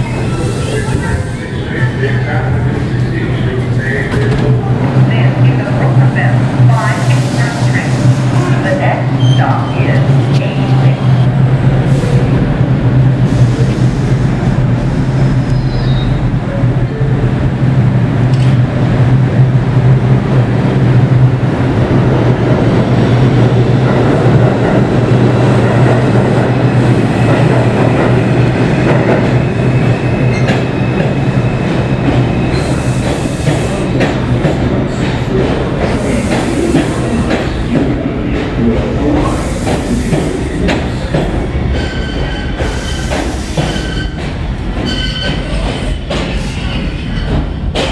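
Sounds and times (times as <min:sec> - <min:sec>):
subway train hum: 0:00.0 - 0:47.9.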